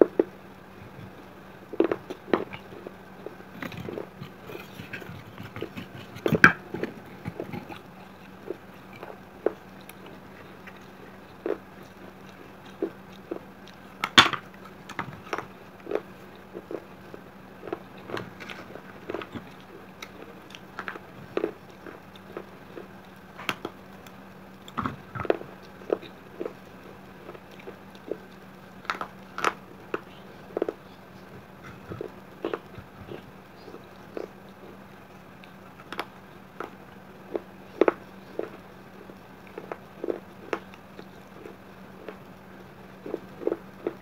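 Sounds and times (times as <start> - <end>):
faint steady hum: 0.0 - 44.0
clay pieces crunched by chewing: 0.2 - 44.0.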